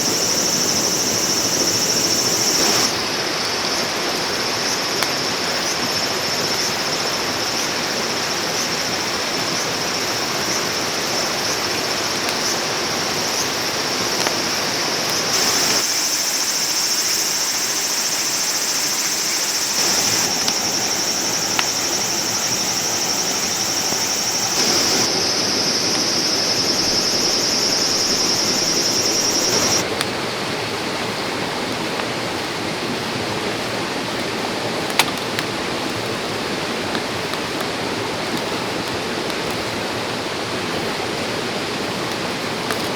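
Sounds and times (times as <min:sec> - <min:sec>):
stream water rushing: 0:00.0 - 0:16.1, 0:18.5 - 0:42.9.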